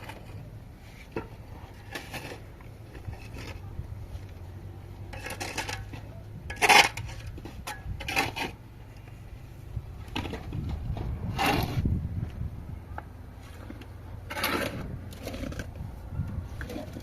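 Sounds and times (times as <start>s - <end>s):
hard objects clattering and scraping: 0.0s - 9.2s, 9.8s - 12.0s, 13.4s - 17.0s.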